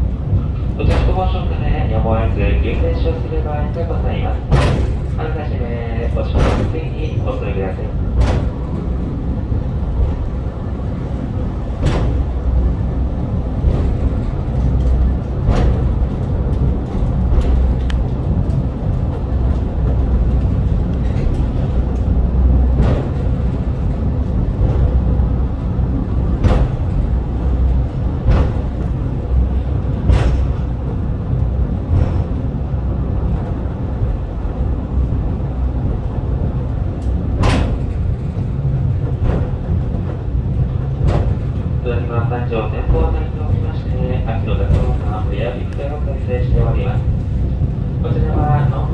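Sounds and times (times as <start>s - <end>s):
cable car rumbling on track: 0.0s - 48.9s.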